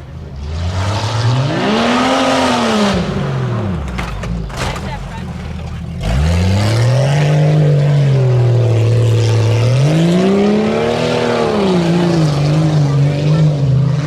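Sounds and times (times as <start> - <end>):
truck engine revving: 0.3 - 14.0.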